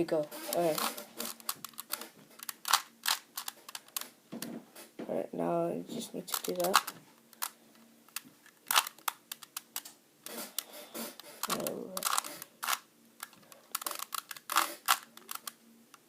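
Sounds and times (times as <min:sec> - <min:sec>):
puzzle cube clicking: 0:00.5 - 0:04.1, 0:06.3 - 0:16.0.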